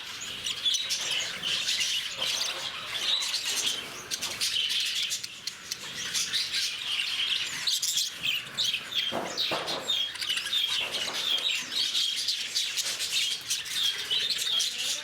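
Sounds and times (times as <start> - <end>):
flock of lovebirds chattering: 0.0 - 15.0.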